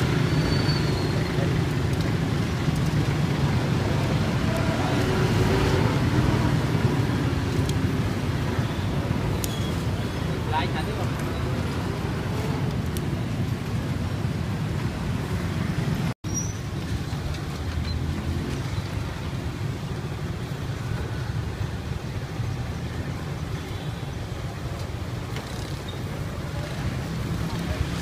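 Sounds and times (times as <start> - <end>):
rumble of passing traffic: 0.0 - 28.0.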